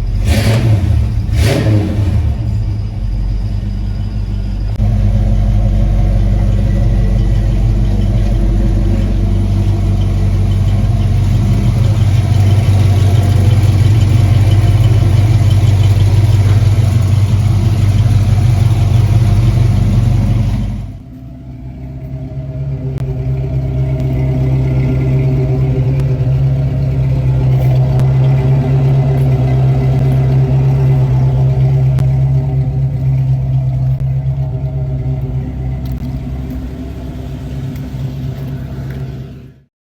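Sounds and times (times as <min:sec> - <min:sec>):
car engine running: 0:00.0 - 0:39.7.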